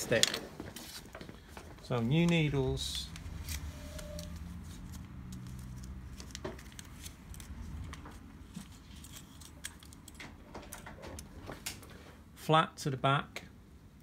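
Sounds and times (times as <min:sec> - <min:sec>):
packet clicking and rustling: 0:00.1 - 0:11.8.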